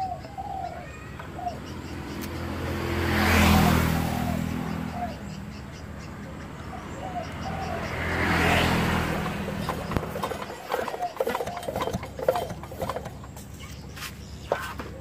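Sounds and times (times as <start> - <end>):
vehicle engine passing: 0.0 - 14.9.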